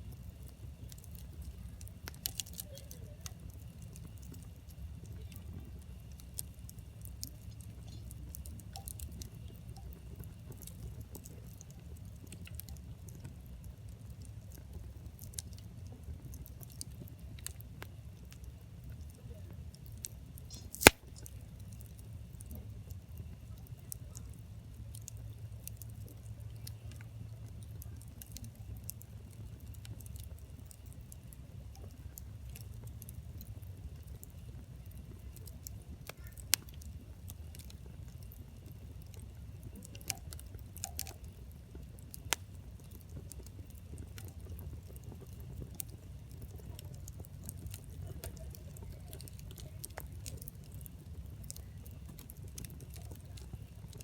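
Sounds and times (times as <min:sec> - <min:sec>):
campfire crackling: 0:00.0 - 0:54.0
low steady rumble: 0:00.0 - 0:54.0.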